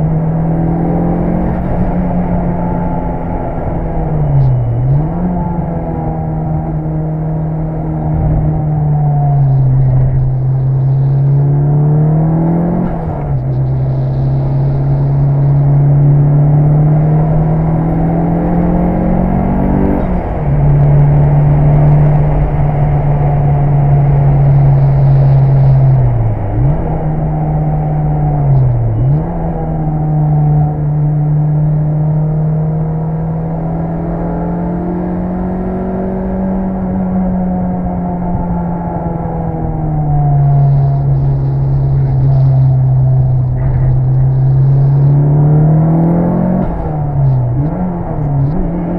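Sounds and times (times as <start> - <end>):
car engine pulling hard: 0.0 - 48.9.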